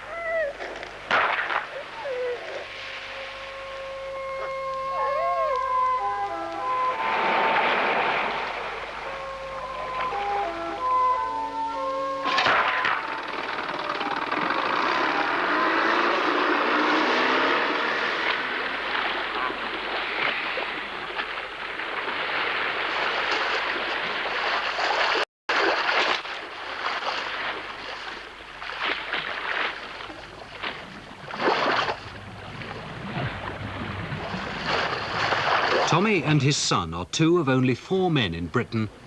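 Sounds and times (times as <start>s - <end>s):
boat wash and spray rushing: 0.0s - 39.0s
water slapping and splashing: 0.5s - 4.7s, 5.7s - 11.3s, 12.2s - 36.4s.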